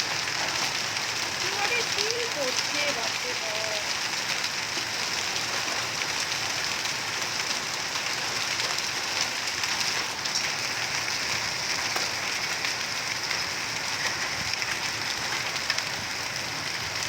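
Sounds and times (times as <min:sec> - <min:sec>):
hailstones ticking: 0:00.0 - 0:17.0
heavy rain hissing: 0:00.0 - 0:17.0.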